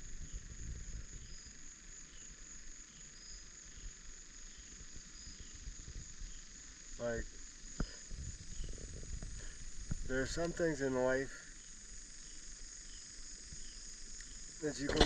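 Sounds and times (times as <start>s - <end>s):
crickets trilling: 0.0s - 15.0s
short faint insect notes: 0.0s - 15.0s.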